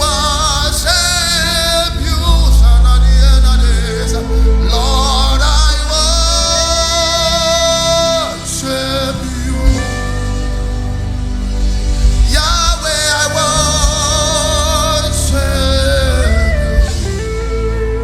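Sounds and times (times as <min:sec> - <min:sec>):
instrumental accompaniment: 0:00.0 - 0:18.0.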